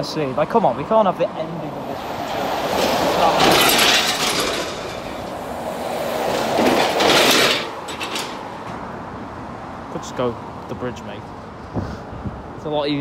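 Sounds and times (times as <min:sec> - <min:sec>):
traffic passing close by: 0:00.0 - 0:13.0.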